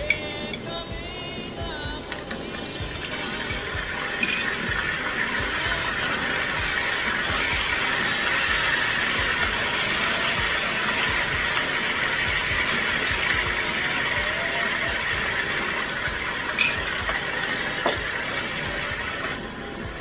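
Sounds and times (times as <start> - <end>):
onions sizzling in a frying pan: 0.0 - 19.5.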